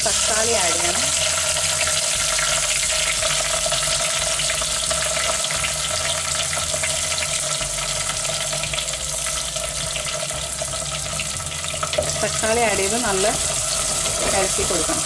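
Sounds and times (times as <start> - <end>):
tomatoes sizzling in oil: 0.0 - 15.0.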